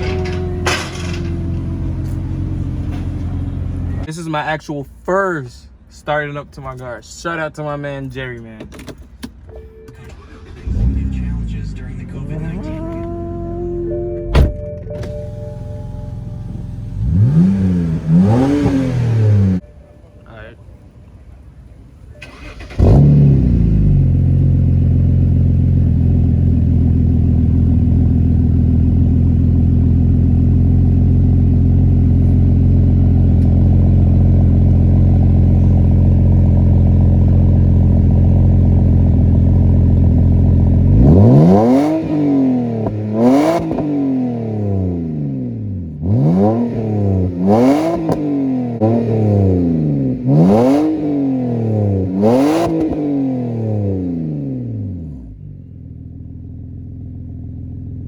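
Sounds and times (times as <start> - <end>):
car engine revving: 0.0 - 4.1, 10.2 - 19.6, 22.0 - 55.4
car engine starting: 0.0 - 4.4, 8.3 - 58.0
car engine idling: 0.0 - 4.6, 10.1 - 54.2, 54.8 - 58.0.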